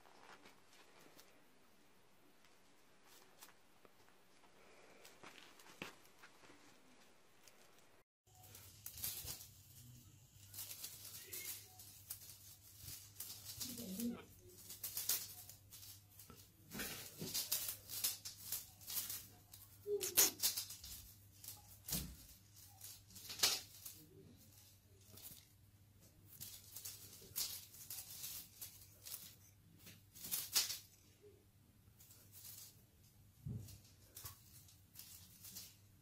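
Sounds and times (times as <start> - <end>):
short rustling and rattling: 0.0 - 36.0.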